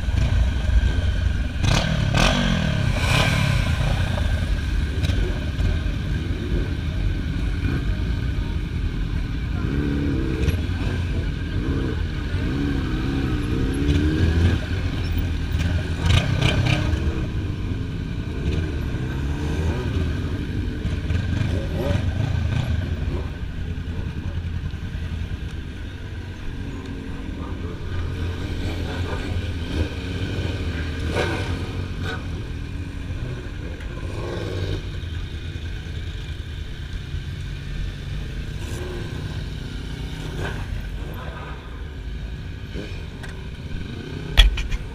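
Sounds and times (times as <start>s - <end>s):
motorcycle engines revving: 0.0s - 44.9s
motorcycles passing: 0.0s - 44.9s.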